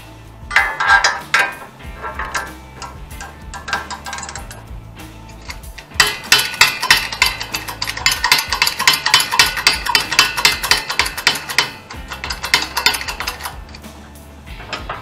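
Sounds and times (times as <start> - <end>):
ratchet wrench clicking: 0.5 - 13.8.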